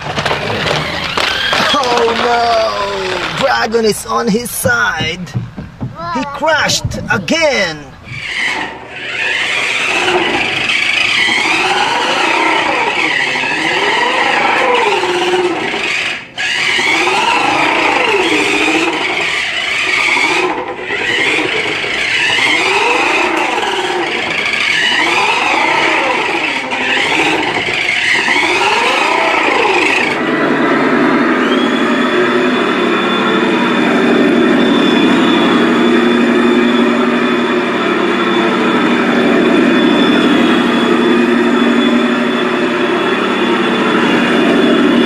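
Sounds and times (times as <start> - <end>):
toy truck electric motor whining: 0.0 - 3.7, 8.0 - 45.0.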